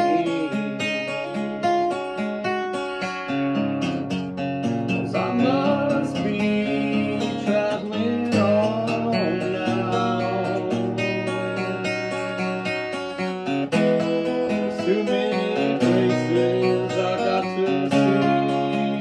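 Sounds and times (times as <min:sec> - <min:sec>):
acoustic guitar strumming: 0:00.0 - 0:19.0
sliding guitar melody: 0:00.0 - 0:19.0.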